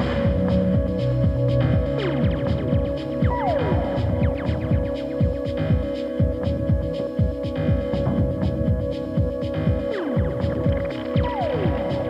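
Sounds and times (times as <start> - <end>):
falling synth sweeps: 0.0 - 12.0
kick drum and bassline thumping: 0.0 - 12.0.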